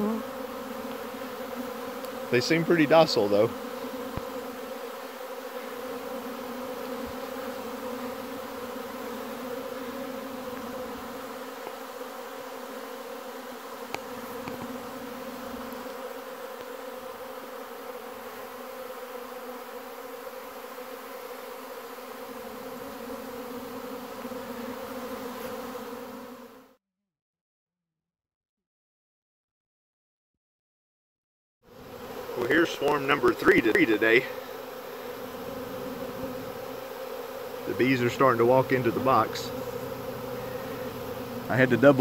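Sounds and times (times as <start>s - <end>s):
bee swarm buzzing: 0.0s - 26.8s, 31.7s - 42.0s.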